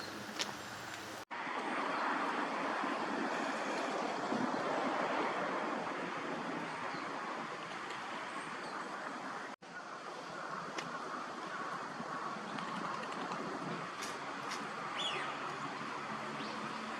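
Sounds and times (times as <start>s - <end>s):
rushing outdoor background noise: 0.0s - 16.9s.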